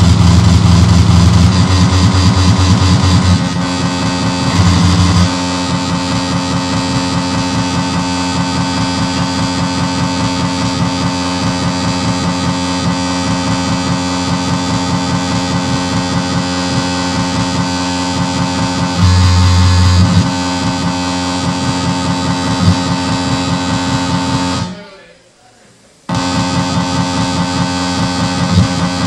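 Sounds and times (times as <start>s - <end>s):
droning electronic tones: 0.0s - 24.8s, 26.1s - 29.0s
fast flickering low pulse: 0.0s - 24.8s, 26.1s - 29.0s.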